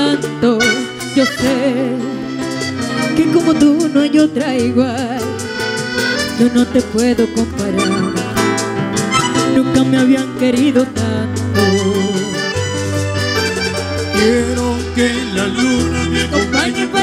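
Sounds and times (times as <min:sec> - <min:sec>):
acoustic guitar: 0:00.0 - 0:17.0
button accordion melody: 0:00.0 - 0:17.0
keyboard chords: 0:00.0 - 0:17.0.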